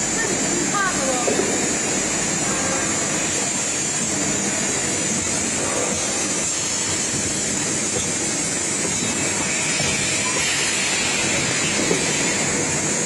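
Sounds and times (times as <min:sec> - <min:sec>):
printing machine running: 0:00.0 - 0:13.0.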